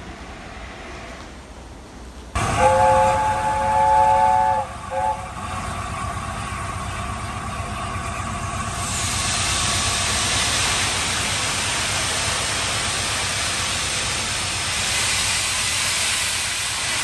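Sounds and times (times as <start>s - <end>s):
locomotive venting steam: 0.0s - 17.0s.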